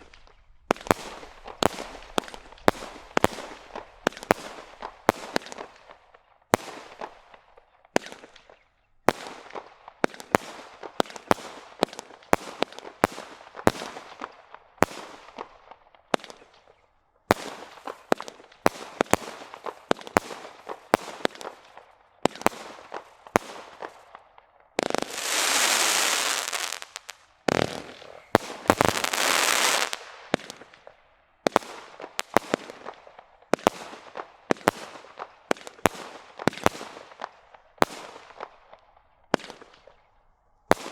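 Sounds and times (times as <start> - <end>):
dense firework crackling: 0.0 - 7.4, 8.0 - 40.1
firework bangs with crackling: 0.0 - 40.1.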